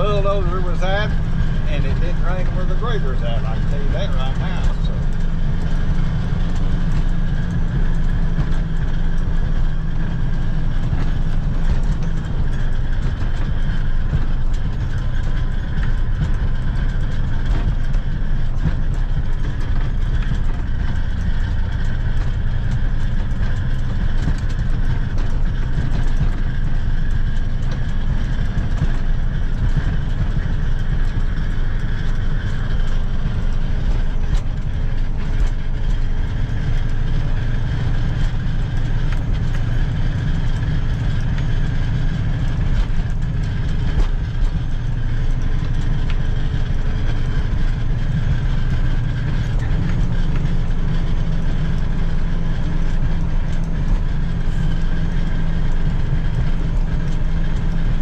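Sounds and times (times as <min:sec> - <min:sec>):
small clicks and rattles: 0:00.0 - 0:58.0
truck engine and tyre rumble: 0:00.0 - 0:58.0.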